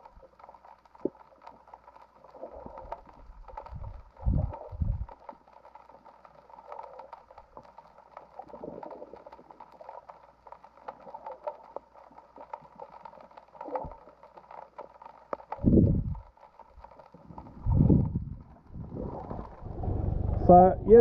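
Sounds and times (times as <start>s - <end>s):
underwater crackling clicks: 0.0s - 19.7s
muffled moving water: 0.0s - 21.0s.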